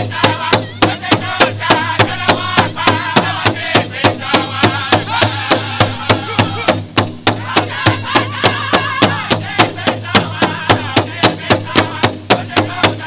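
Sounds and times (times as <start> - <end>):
high wavering voices singing: 0.0 - 6.8, 7.4 - 13.0
big drum beating: 0.0 - 13.0.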